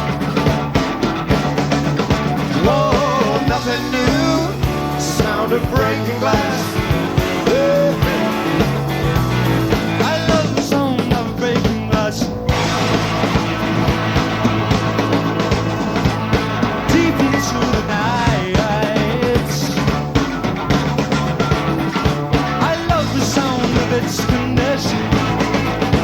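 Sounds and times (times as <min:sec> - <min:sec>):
bending guitar melody: 0:00.0 - 0:26.0
live rock band playing: 0:00.0 - 0:26.0.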